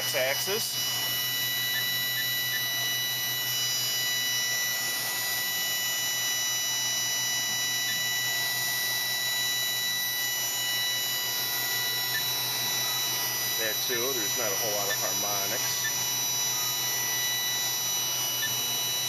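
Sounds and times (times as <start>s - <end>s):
machine whine: 0.0s - 19.0s.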